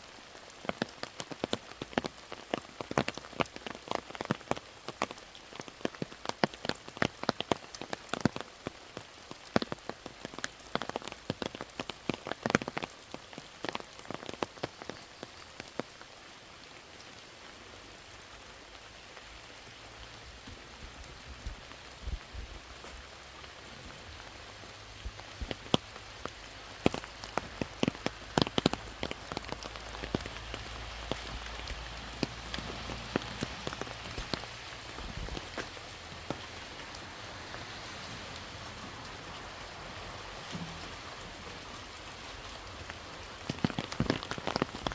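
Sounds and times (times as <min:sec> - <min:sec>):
raindrops striking loudly: 0:00.0 - 0:44.9.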